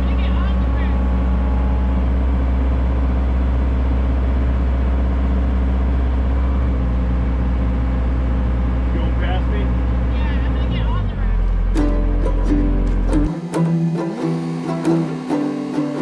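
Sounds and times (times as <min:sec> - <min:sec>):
excavator diesel engine drone: 0:00.0 - 0:16.0.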